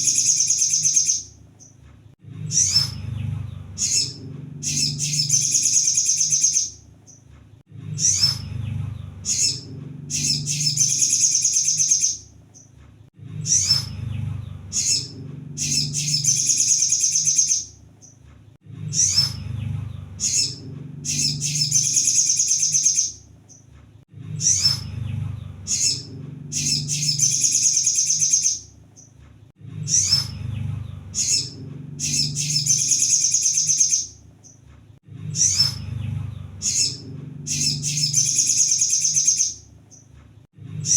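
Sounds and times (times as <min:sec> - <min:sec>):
bird twittering song: 0:00.0 - 0:01.8, 0:02.4 - 0:07.3, 0:07.9 - 0:12.8, 0:13.4 - 0:18.2, 0:18.9 - 0:23.7, 0:24.3 - 0:29.2, 0:29.8 - 0:34.7, 0:35.3 - 0:40.1
steady low hum: 0:00.0 - 0:40.9.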